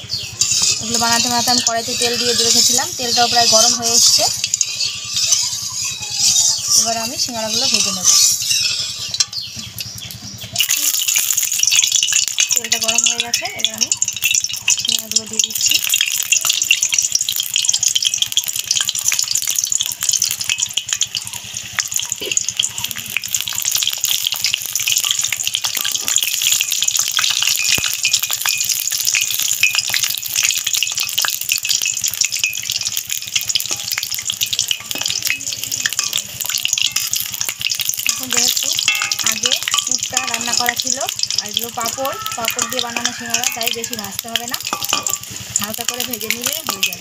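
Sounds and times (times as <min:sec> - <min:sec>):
deep-frying sizzle with crackling: 0:00.0 - 0:47.0.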